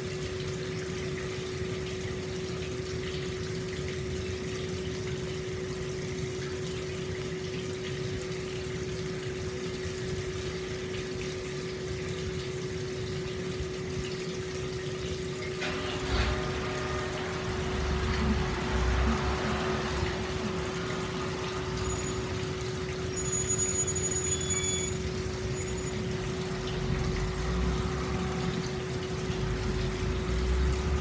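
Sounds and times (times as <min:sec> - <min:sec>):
water pouring into a bath: 0:00.0 - 0:31.0.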